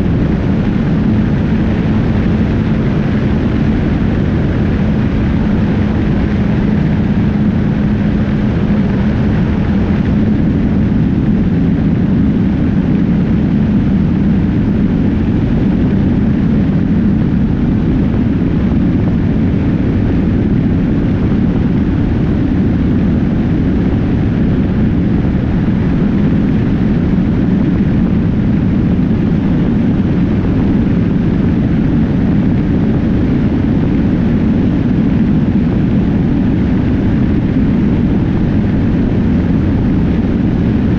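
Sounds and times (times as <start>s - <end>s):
motorcycle engine drone: 0.0s - 40.9s
wind buffeting microphone: 0.0s - 40.9s.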